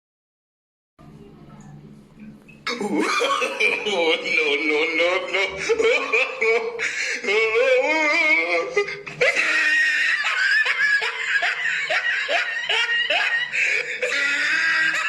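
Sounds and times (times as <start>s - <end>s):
high-pitched wavering laugh: 2.7s - 15.0s
rhythmic ha-ha laughter: 2.7s - 15.0s.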